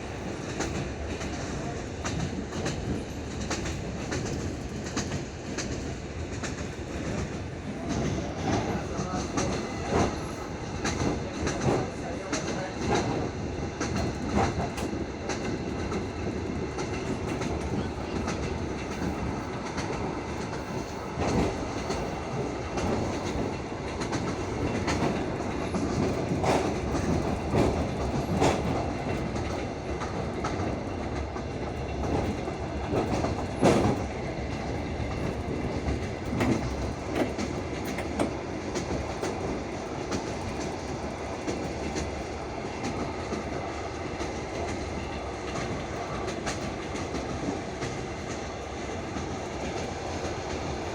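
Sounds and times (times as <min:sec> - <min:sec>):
train rolling rumble: 0:00.0 - 0:50.9
wheels clacking over rail joints: 0:00.5 - 0:50.9.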